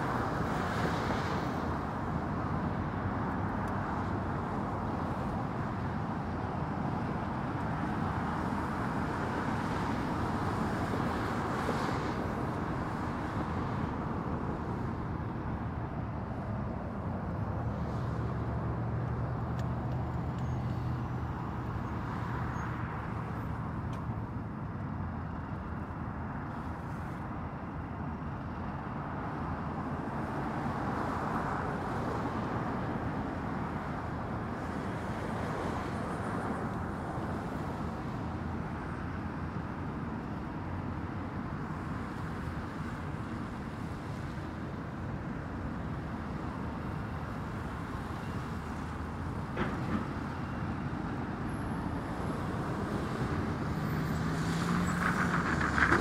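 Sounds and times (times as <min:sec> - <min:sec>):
highway traffic rushing: 0:00.0 - 0:56.0.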